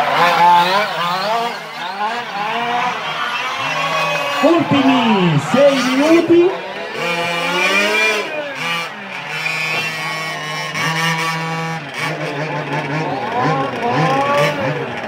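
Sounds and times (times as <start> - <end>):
small engines revving: 0.0 - 15.0.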